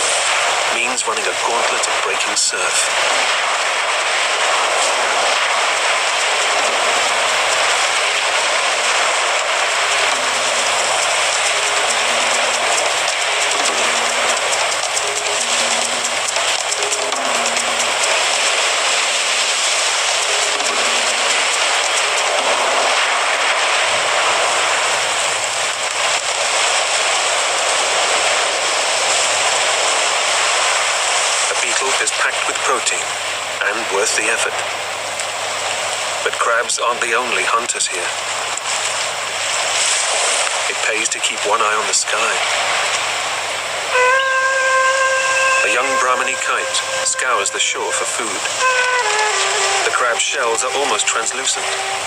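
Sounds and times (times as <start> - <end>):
ocean surf breaking on beach: 0.0 - 52.0.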